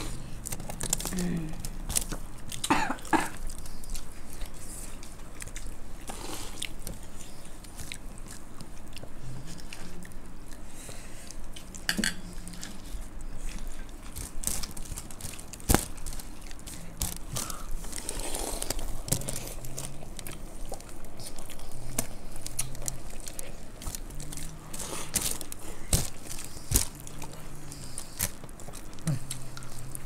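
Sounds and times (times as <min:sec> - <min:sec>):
people chewing crunchy snacks: 0:00.0 - 0:30.0.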